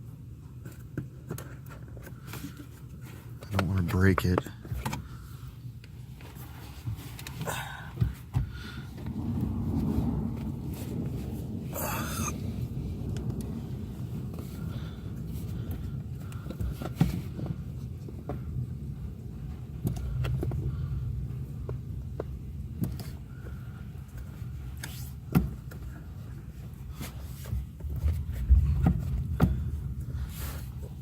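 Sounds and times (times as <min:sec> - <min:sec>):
low handling rumble: 0:05.0 - 0:31.0.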